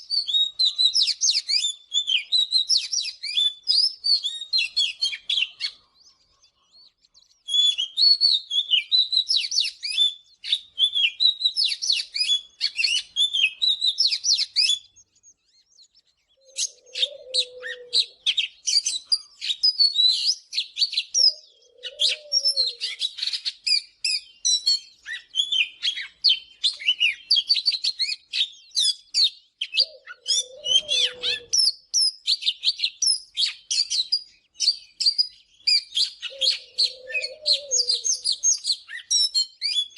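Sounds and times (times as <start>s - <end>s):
bird singing whistled phrases: 0.0s - 5.8s, 6.7s - 39.9s.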